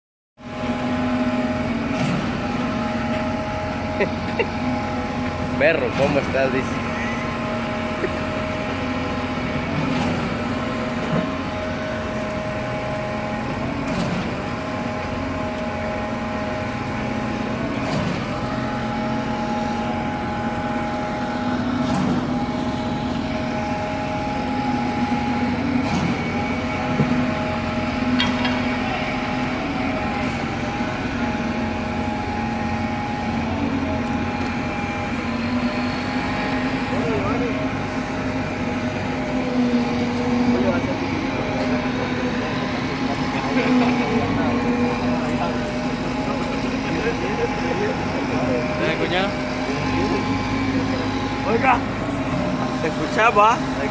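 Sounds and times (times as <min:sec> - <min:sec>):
motor humming: 0:00.6 - 0:53.9.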